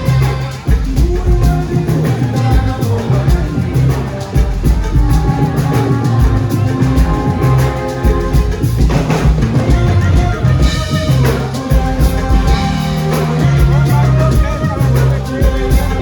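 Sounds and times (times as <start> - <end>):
drum kit beat: 0.0 - 16.0
heavy bass line: 0.0 - 16.0
live band music: 0.0 - 16.0.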